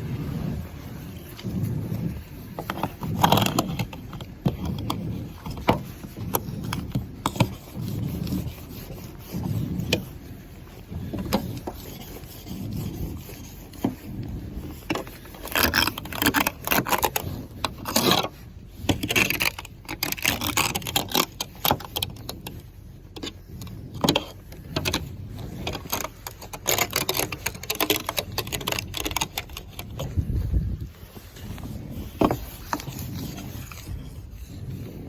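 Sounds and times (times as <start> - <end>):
snow scraper scraping a car: 0.0 - 35.0.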